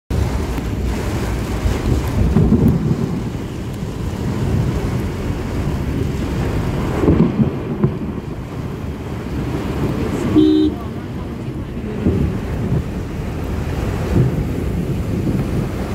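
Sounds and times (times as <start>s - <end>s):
heavy rain on a car: 0.1s - 15.9s
low rumbles: 0.1s - 15.9s.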